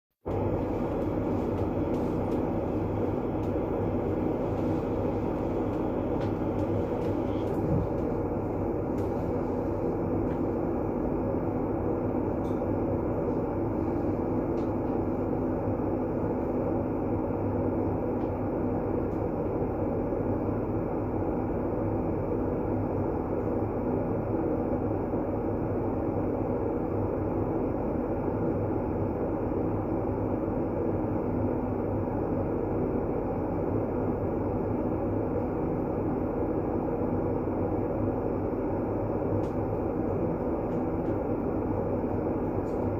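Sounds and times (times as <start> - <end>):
deep rumbling noise with hum: 0.3 - 30.5, 31.2 - 42.9.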